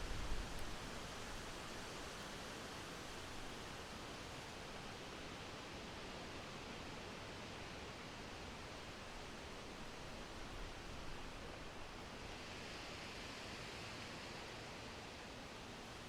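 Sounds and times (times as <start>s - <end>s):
wind rustling tree leaves: 0.0s - 16.0s.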